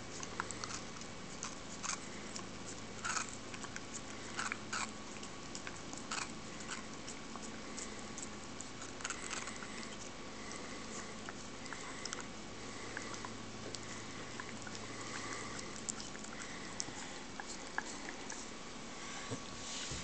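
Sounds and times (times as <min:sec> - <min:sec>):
dog crunchy bites: 0:00.0 - 0:18.5.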